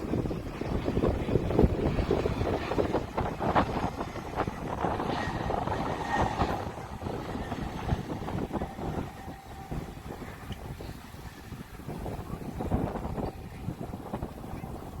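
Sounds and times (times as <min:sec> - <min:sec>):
faint engine whine: 0:00.0 - 0:15.0
jet engines rumbling: 0:00.0 - 0:15.0
wind buffeting microphone: 0:00.0 - 0:15.0.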